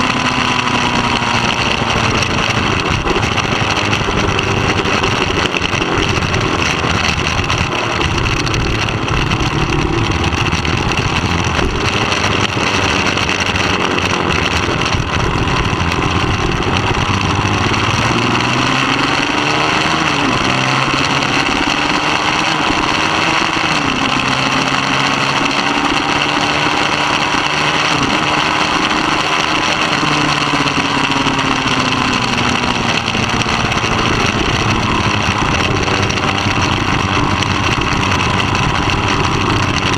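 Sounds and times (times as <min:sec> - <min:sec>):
motorcycle engine running hard: 0:00.0 - 0:39.9
rush of noise: 0:00.0 - 0:39.9.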